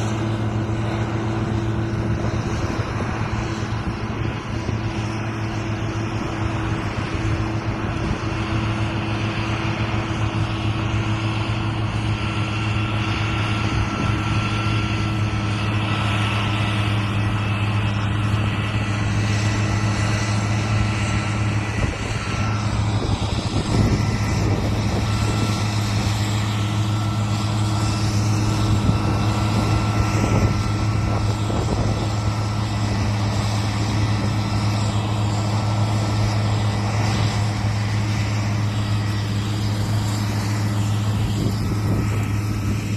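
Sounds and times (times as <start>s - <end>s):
combine harvester engine drone: 0.0s - 42.9s
machinery whine: 0.0s - 42.9s.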